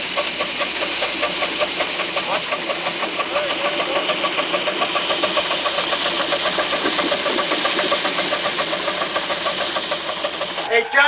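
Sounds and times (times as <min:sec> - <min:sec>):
steam hissing: 0:00.0 - 0:10.8
steam locomotive chuffing: 0:00.0 - 0:11.0.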